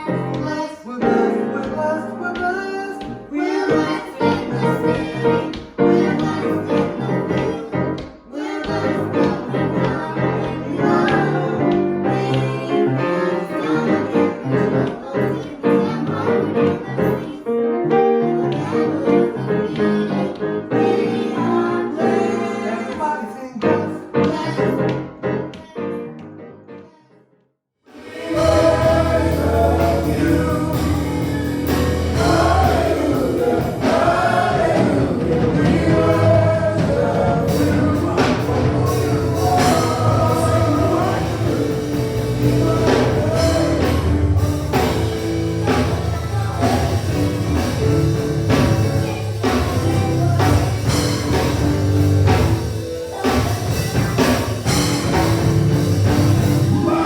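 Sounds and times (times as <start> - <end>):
gospel choir singing with band: 0.0 - 24.9, 27.9 - 57.0.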